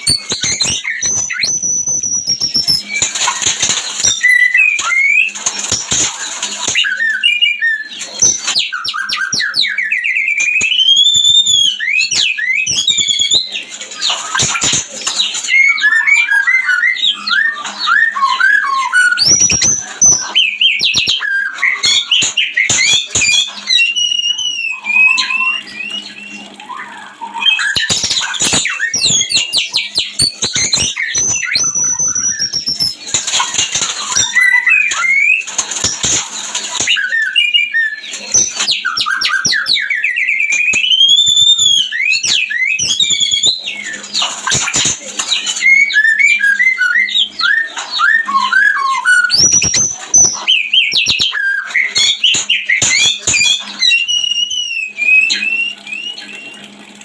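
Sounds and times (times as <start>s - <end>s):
bird singing whistles and trills: 0.0s - 56.9s.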